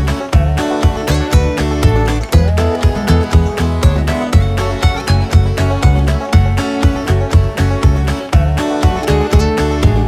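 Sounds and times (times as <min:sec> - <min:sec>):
music with strummed guitar and bass: 0:00.0 - 0:10.0.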